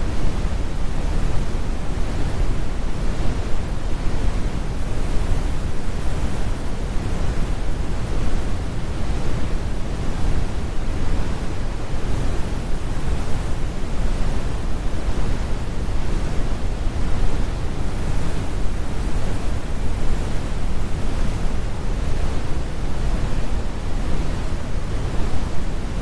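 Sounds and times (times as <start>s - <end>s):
brown noise rumbling hiss: 0.0s - 26.0s.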